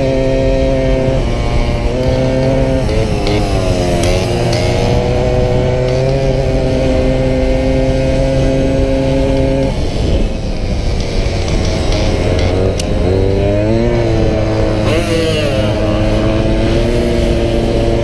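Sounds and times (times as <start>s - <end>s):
moped engine running: 0.0s - 18.0s
wind on microphone: 0.0s - 18.0s.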